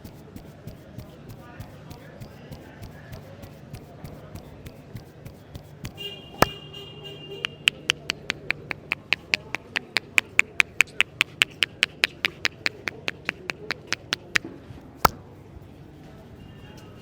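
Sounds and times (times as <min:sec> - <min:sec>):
rapid hand slaps: 0:00.0 - 0:06.6, 0:07.4 - 0:15.2.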